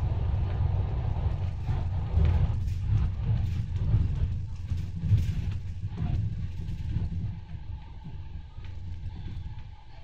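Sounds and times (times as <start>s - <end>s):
bus engine and road rumble: 0.0s - 9.9s.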